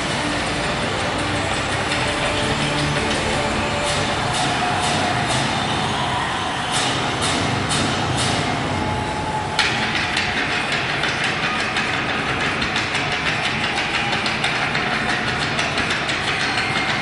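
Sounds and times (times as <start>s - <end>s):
music over speakers: 0.0s - 17.0s.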